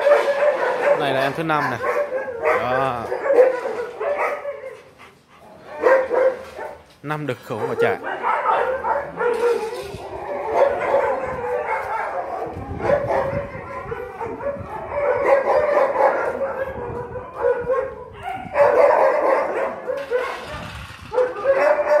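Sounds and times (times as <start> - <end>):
dogs barking and whining: 0.0 - 6.9, 7.5 - 22.0.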